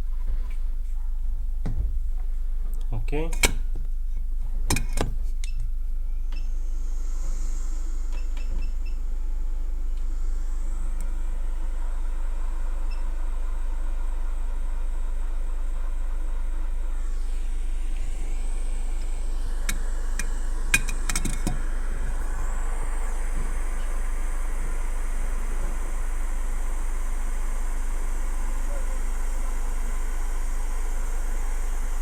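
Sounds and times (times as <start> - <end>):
low electrical hum: 0.0 - 32.0.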